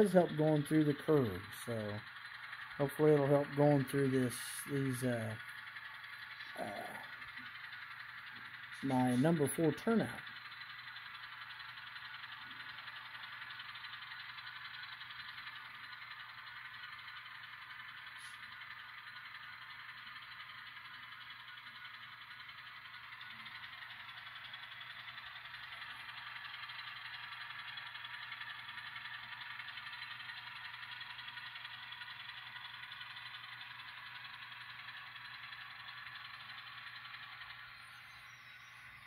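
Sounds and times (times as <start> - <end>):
low steady hum: 0.0 - 39.0
model train motor whirring: 0.0 - 39.0.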